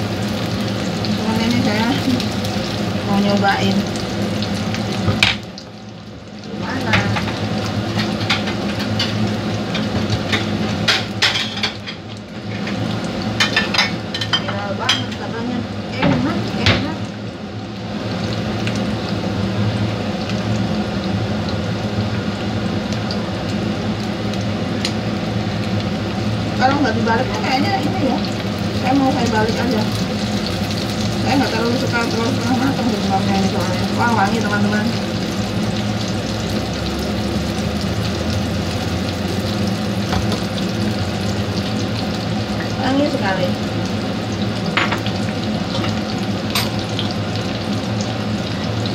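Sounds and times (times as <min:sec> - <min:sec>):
eggs sizzling in oil: 0:00.0 - 0:48.9.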